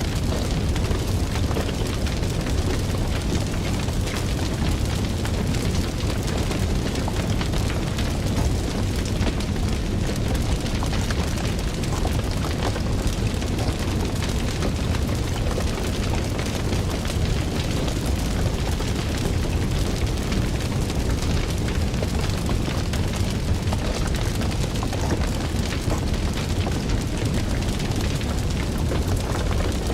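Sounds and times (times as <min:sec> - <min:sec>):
fire crackling: 0:00.0 - 0:29.9.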